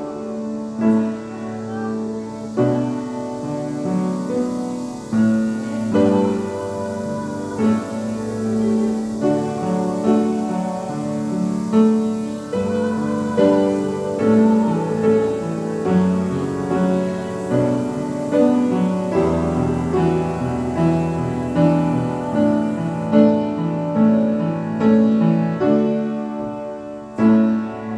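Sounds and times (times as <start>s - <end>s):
piano chords played slowly: 0.0s - 27.9s.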